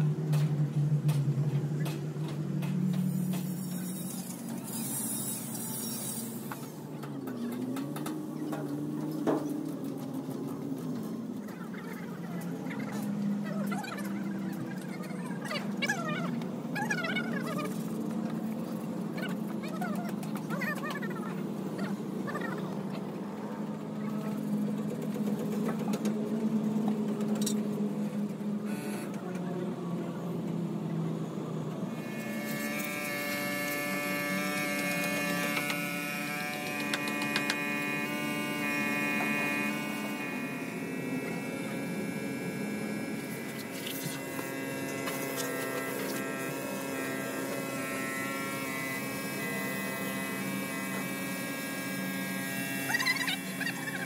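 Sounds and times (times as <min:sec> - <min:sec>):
machine hum with held tones: 0:00.0 - 0:54.0.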